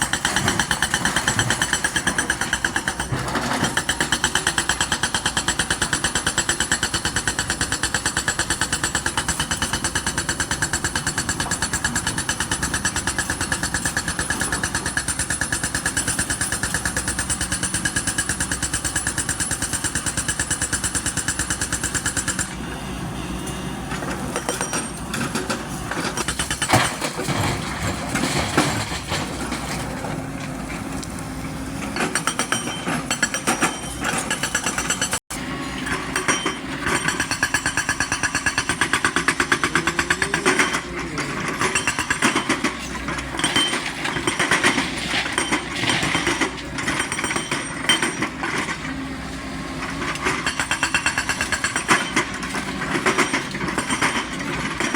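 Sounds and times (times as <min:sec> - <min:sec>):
excavator diesel engine under load: 0:04.8 - 0:54.9.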